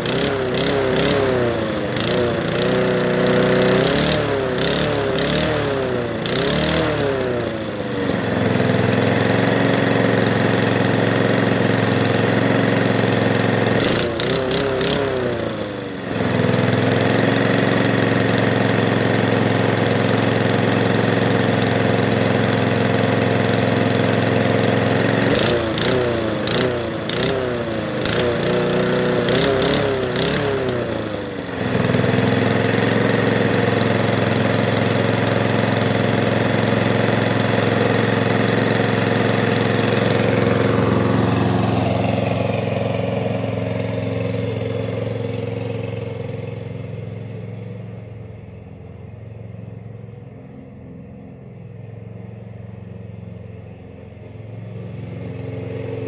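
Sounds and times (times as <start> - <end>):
lawnmower engine running: 0.0 - 56.0.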